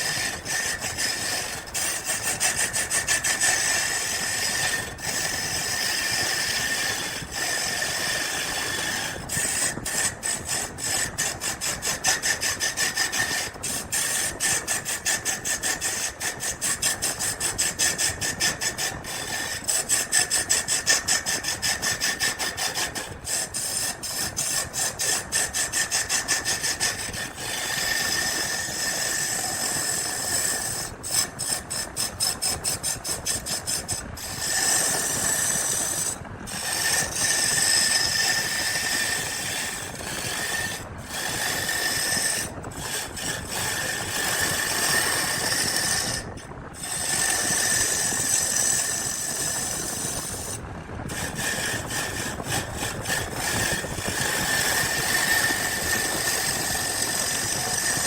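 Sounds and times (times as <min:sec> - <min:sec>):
rasping strokes on wood: 0:00.0 - 0:58.0
small machine running: 0:00.0 - 0:58.0.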